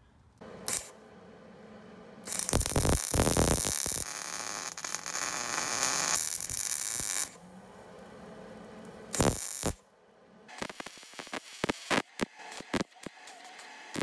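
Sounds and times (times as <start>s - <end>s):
welder arc crackling: 0.4s - 9.8s, 10.4s - 14.0s.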